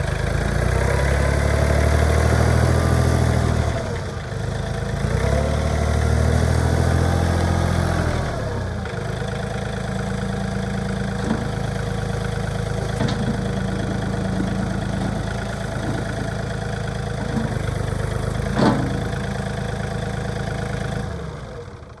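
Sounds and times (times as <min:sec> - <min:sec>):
tractor diesel engine: 0:00.0 - 0:22.0.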